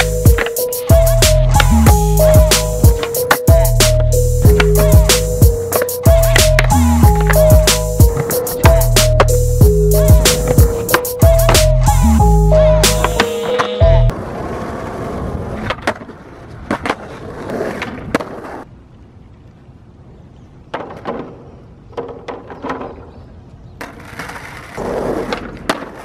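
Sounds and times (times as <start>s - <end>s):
skateboard clacking on ground: 0.0s - 9.4s, 10.3s - 11.6s, 12.9s - 18.7s, 20.7s - 26.0s
skateboard wheels rolling on pavement: 0.0s - 26.0s.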